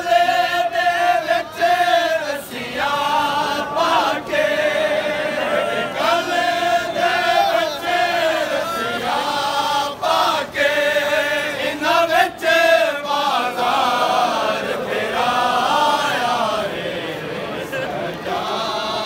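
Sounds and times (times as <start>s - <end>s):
crowd of men chanting lament: 0.0s - 19.0s.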